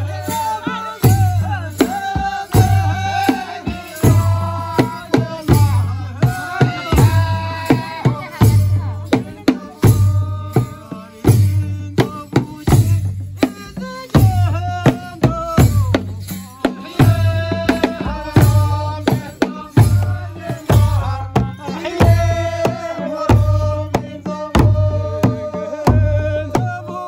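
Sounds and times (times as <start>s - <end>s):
drum ensemble beating: 0.0s - 27.0s
voices singing: 0.0s - 27.0s.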